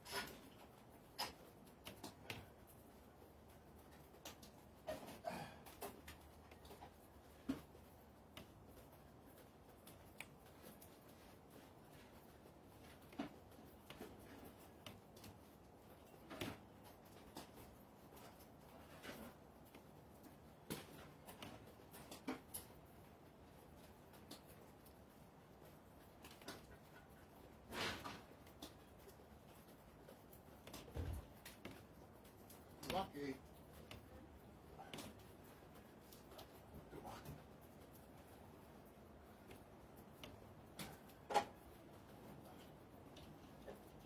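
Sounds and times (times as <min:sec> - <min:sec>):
faint clicks and knocks: 0:00.0 - 0:44.0.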